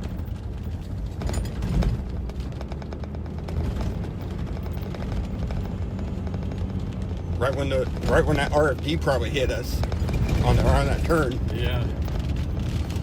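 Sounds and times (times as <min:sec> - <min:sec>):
small hits rattling on vehicle: 0:00.0 - 0:13.0
vehicle road rumble: 0:00.0 - 0:13.0.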